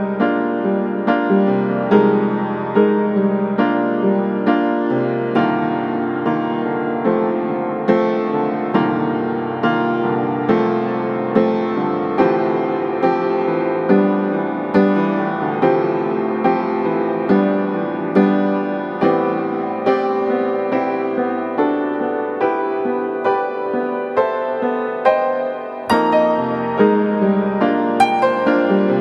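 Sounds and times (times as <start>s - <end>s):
slow piano notes: 0.0s - 29.0s.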